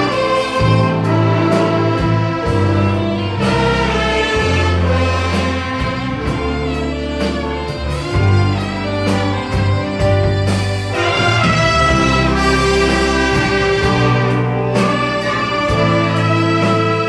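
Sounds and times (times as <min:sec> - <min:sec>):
orchestra playing: 0:00.0 - 0:17.0.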